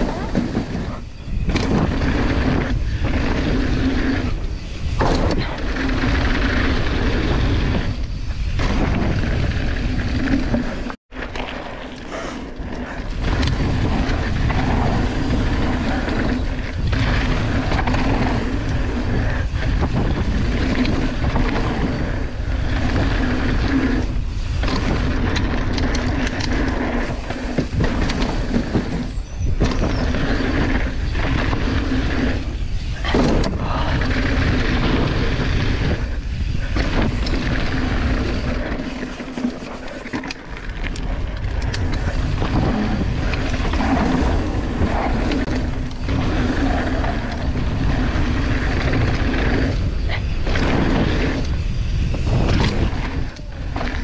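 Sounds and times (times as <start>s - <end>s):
wind buffeting microphone: 0.0s - 10.9s, 12.1s - 54.0s
bike tyres rolling on dirt: 0.0s - 54.0s.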